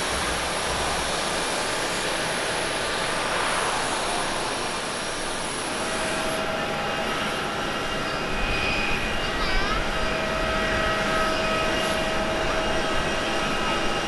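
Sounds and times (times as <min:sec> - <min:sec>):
jet engines at taxi power: 0:00.0 - 0:14.0.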